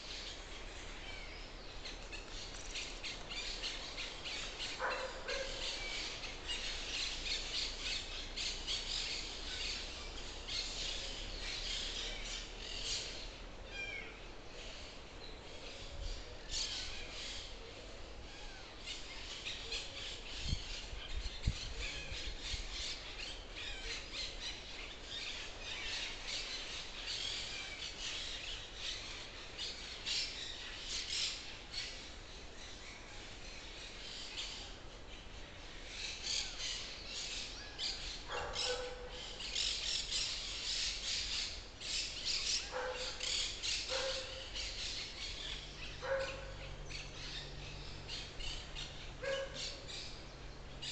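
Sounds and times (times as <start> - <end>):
forest birds chirping: 0.0 - 50.9.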